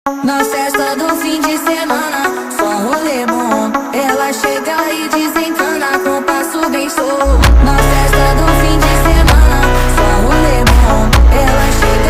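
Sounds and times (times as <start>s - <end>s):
person singing: 0.1s - 12.0s
pop music with bass beat: 0.1s - 12.0s.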